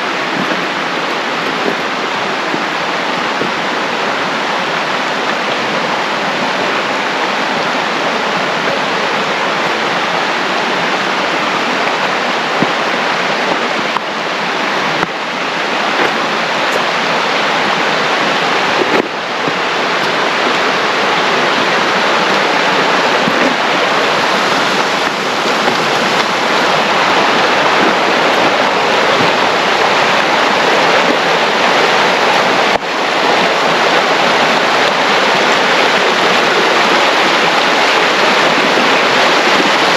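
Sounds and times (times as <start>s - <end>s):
rushing water of river: 0.0s - 39.9s.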